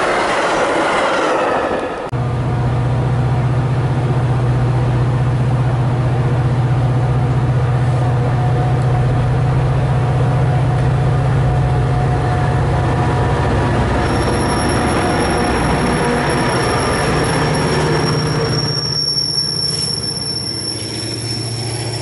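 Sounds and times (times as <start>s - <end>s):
train rolling past: 0.0s - 22.0s
low diesel engine drone: 2.1s - 22.0s.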